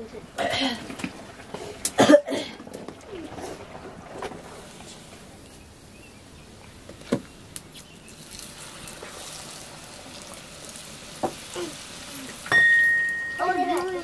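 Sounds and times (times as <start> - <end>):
oil bubbling and sizzling: 2.7 - 14.0.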